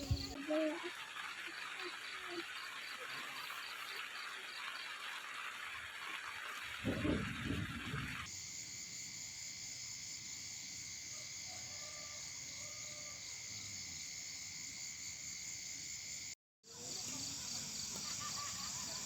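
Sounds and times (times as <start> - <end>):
crickets and insects trilling: 0.0 - 19.0.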